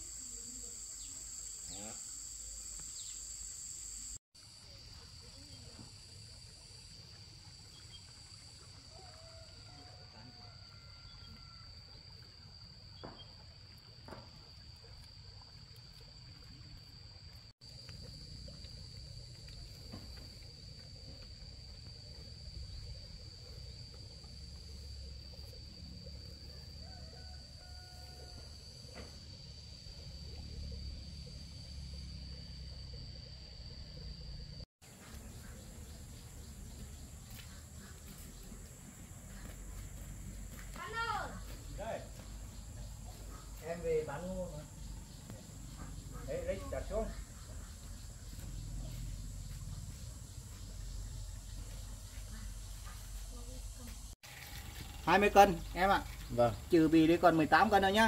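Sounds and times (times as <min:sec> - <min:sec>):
insects shrilling drone: 0:00.0 - 0:13.3, 0:16.0 - 0:58.0.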